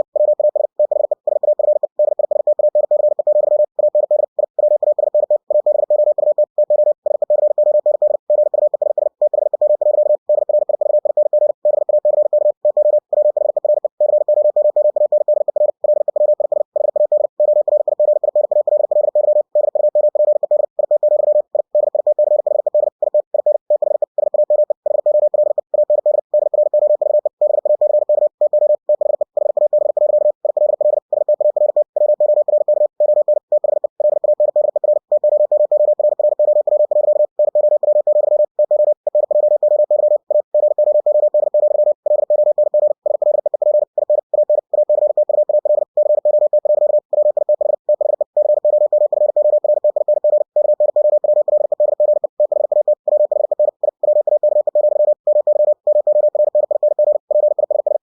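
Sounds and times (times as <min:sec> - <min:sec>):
morse code tone: 0:00.0 - 0:58.0.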